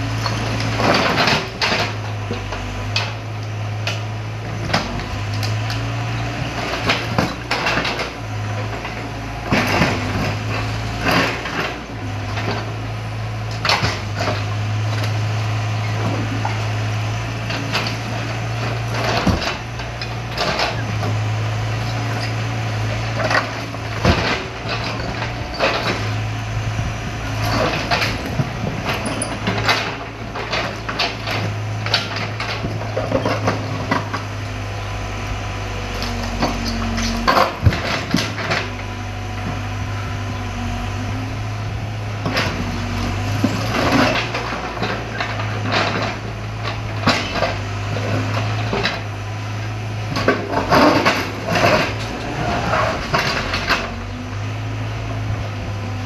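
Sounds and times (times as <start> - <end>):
excavator engine droning: 0.0 - 56.0.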